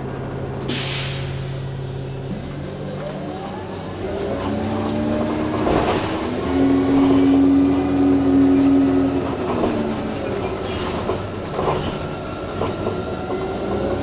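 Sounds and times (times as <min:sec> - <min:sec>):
bus ride rumble: 0:00.0 - 0:14.0.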